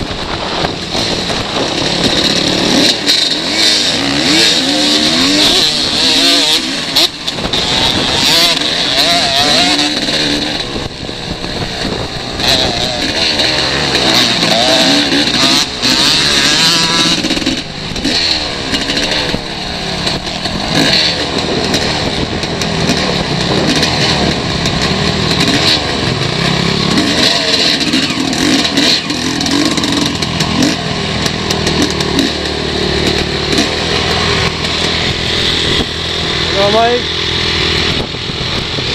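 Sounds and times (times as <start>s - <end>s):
dirt bike engine revving: 0.0s - 38.9s
other dirt bikes running: 0.0s - 38.9s.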